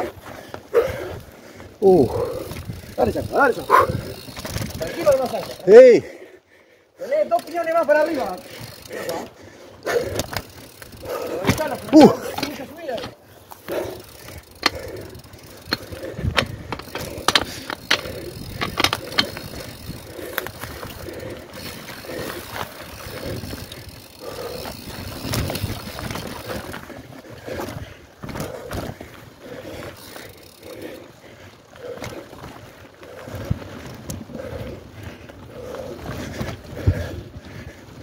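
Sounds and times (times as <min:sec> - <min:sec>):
bike chain and frame rattling: 0:00.0 - 0:06.4, 0:07.0 - 0:38.0.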